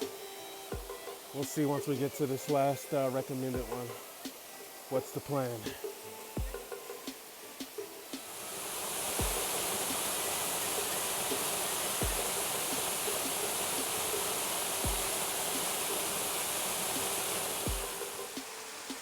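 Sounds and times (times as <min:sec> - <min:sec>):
background music with low bass: 0:00.0 - 0:08.3, 0:09.2 - 0:19.0
rushing stream water: 0:00.0 - 0:19.0.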